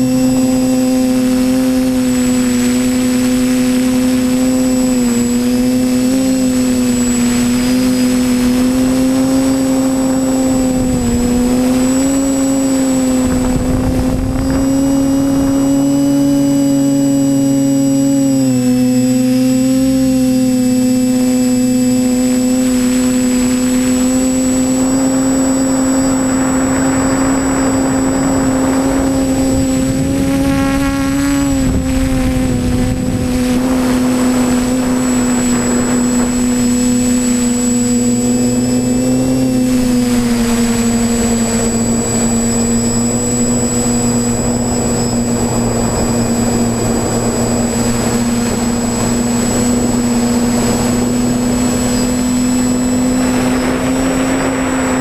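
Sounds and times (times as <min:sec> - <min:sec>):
high electronic whine: 0:00.0 - 0:55.0
quadcopter motors humming: 0:00.0 - 0:55.0.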